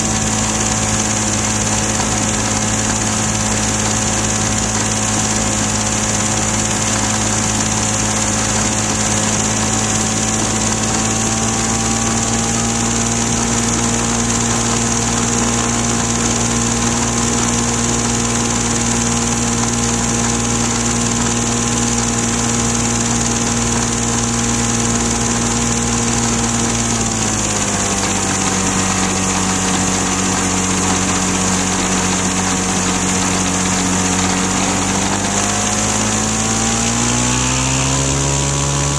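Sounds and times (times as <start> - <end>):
light aircraft engine running: 0.0 - 38.9.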